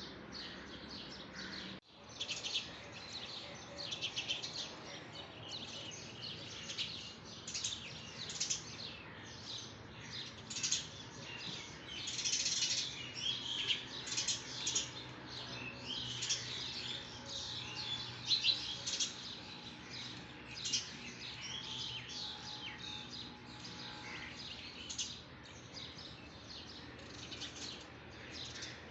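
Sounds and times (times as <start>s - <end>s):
songbirds chirping and twittering: 0.0s - 28.9s.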